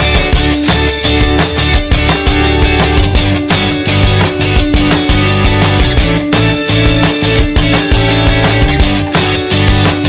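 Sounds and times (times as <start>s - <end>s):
upbeat rock music: 0.0s - 10.0s.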